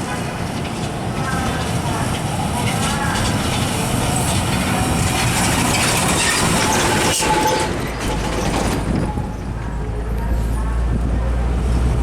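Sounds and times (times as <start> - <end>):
heavy road traffic: 0.0 - 12.0.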